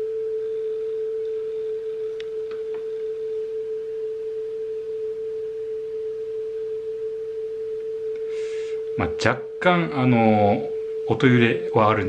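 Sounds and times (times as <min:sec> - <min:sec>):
steady test tone: 0:00.0 - 0:12.0.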